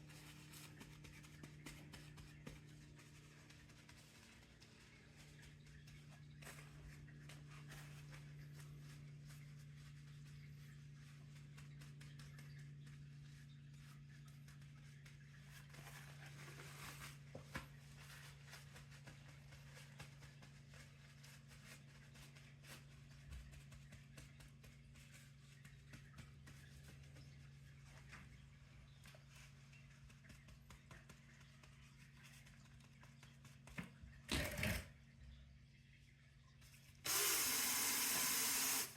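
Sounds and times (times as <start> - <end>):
soft ticks and rustles: 0.0 - 34.3
faint low hum: 0.0 - 38.9.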